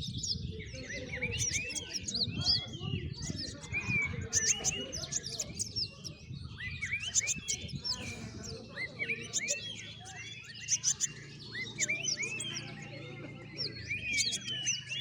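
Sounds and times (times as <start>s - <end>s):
birds chirping together: 0.0s - 15.0s.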